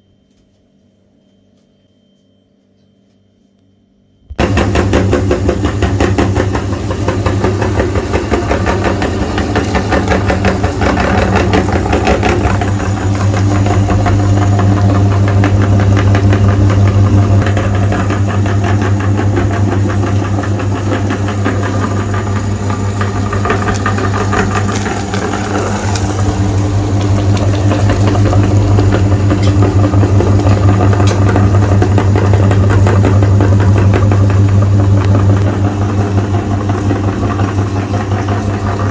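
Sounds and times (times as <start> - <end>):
meat grinder motor rattling: 4.4 - 38.9.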